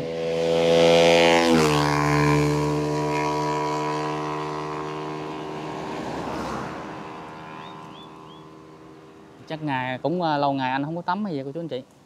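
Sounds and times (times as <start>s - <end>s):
vehicle passing by: 0.0s - 10.6s.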